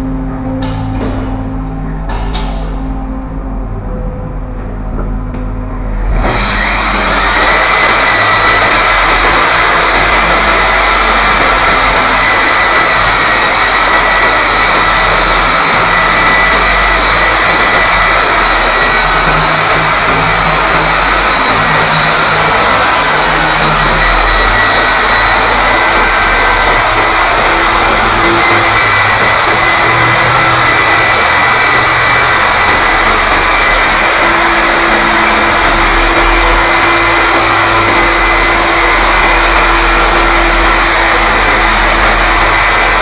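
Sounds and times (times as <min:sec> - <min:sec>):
core drill cutting concrete: 0:06.0 - 0:43.0.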